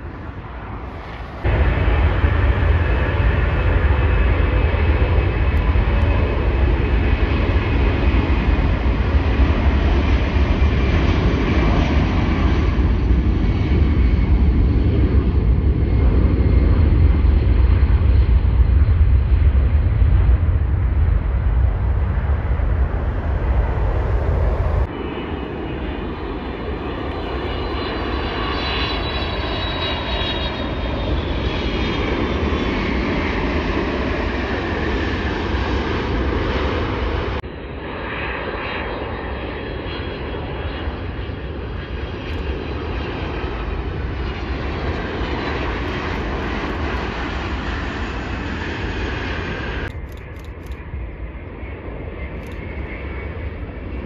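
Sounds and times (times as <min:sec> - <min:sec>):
jet aircraft taking off rumble: 0:00.0 - 0:54.0
jet airliner engine roar: 0:00.0 - 0:54.0
jet engine whine falling in pitch: 0:00.0 - 0:54.0.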